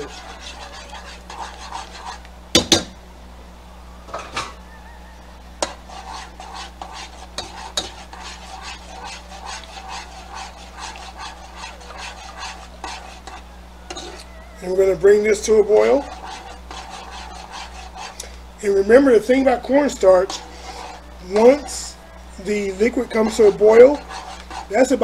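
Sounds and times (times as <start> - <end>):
spoon stirring in a saucepan: 0.0 - 2.8, 5.6 - 25.0.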